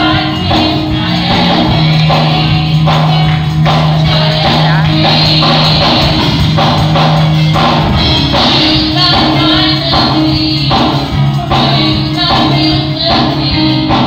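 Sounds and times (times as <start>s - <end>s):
female group singing gospel: 0.0s - 6.9s, 8.0s - 14.0s
electric keyboard: 0.0s - 14.0s
percussion: 0.0s - 14.0s.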